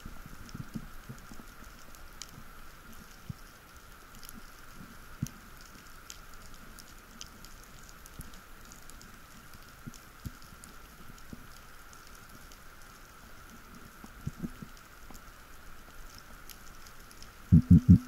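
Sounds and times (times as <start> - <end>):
faint underwater hiss: 0.0 - 18.0
underwater clicks and crackles: 0.0 - 18.0.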